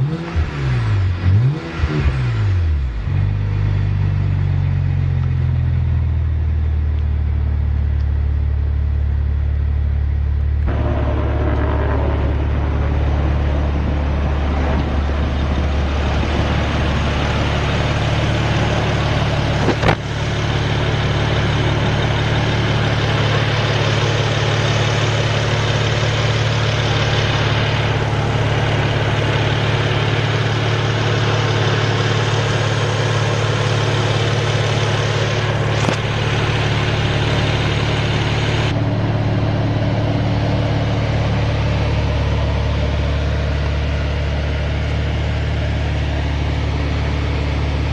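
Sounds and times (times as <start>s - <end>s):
car engine idling: 2.4s - 47.9s.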